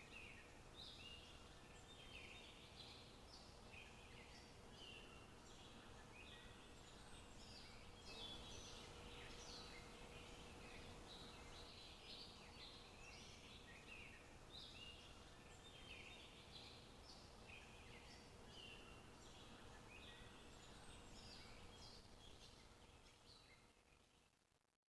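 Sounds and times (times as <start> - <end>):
birds chirping: 0.0 - 24.0
steady background hiss: 0.0 - 24.7.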